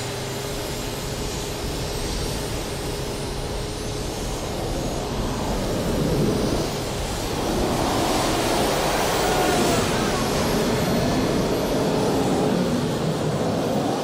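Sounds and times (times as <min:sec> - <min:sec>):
faint steady whine: 0:00.0 - 0:14.0
jet engine roar: 0:00.0 - 0:14.0.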